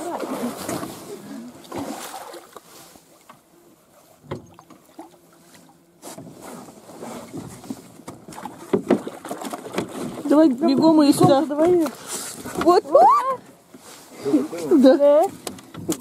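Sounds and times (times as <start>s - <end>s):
faint steady hum: 0.0s - 16.0s
water splashing against boat: 0.0s - 16.0s.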